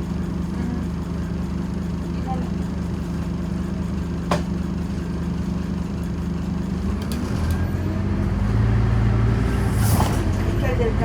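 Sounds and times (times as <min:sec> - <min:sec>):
bus diesel engine humming: 0:00.0 - 0:11.0.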